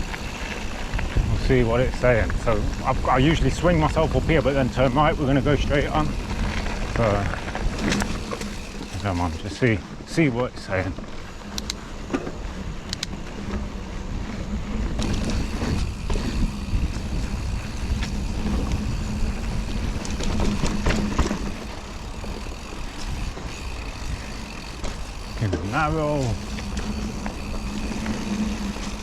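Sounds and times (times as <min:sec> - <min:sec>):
wind on microphone: 0:00.0 - 0:09.6, 0:11.6 - 0:29.0
bike clicks and rattles: 0:00.0 - 0:29.0
tyres rumbling on dirt: 0:00.0 - 0:29.0.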